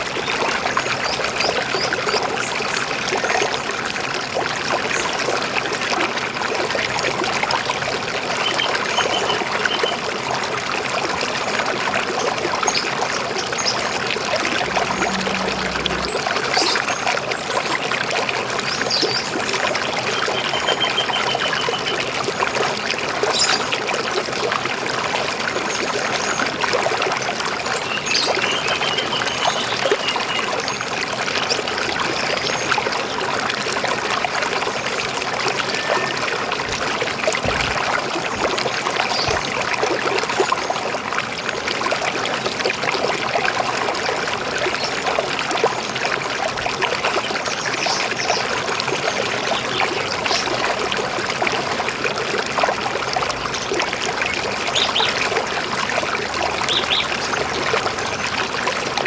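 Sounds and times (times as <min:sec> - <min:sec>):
river water gurgling: 0:00.0 - 0:59.0.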